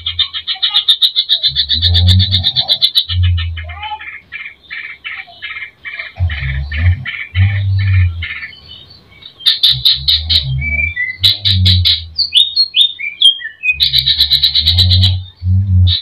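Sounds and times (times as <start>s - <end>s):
songbird singing varied song: 0.0s - 16.0s.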